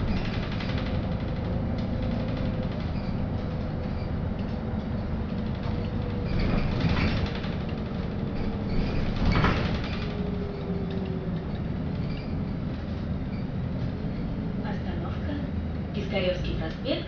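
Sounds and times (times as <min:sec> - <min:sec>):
bus cabin running rumble: 0:00.0 - 0:17.0
rattling noise: 0:00.0 - 0:17.0.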